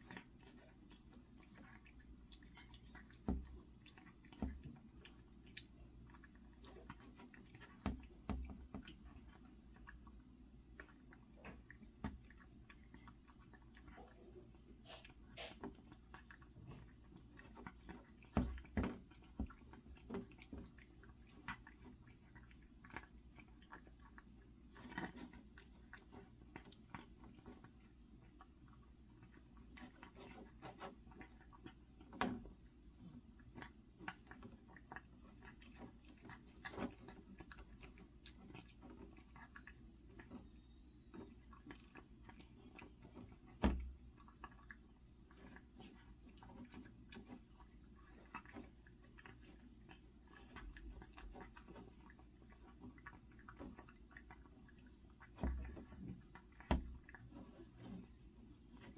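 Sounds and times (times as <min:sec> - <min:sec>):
cat chewing: 0:00.0 - 0:58.9.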